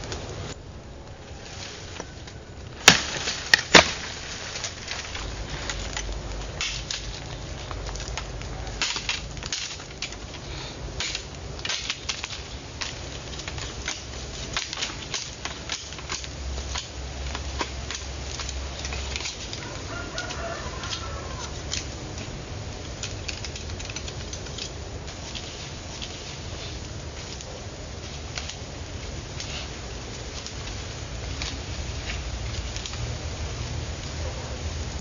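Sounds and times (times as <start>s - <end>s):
small irregular clicks and cracks: 0.0s - 1.2s, 1.9s - 34.2s.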